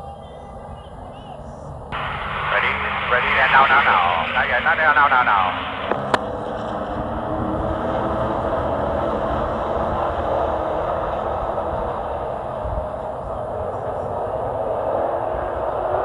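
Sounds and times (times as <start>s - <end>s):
road and wind noise: 0.0s - 16.0s
truck engine drone: 0.0s - 16.0s.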